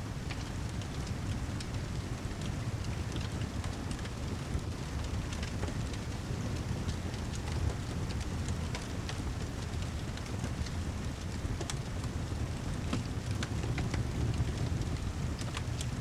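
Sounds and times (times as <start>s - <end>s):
steady rain: 0.0s - 16.0s
wood fire crackling: 0.1s - 16.0s.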